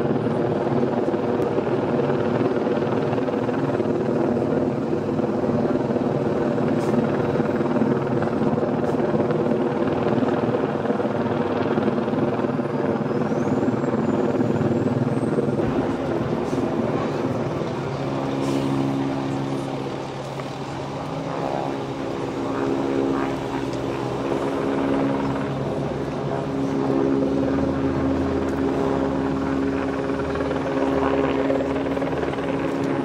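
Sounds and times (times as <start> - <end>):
steady engine drone: 0.0 - 33.0.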